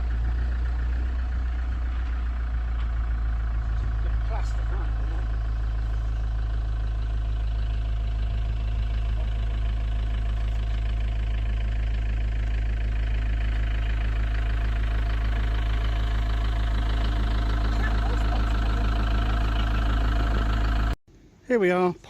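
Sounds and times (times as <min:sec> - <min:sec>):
engine running with low rumble: 0:00.0 - 0:21.0.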